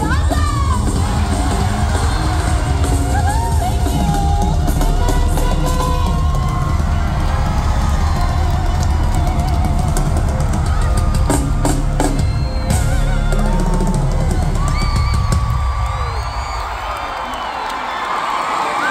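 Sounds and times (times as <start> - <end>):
live concert music: 0.0 - 18.9
pounding drums: 0.2 - 16.2.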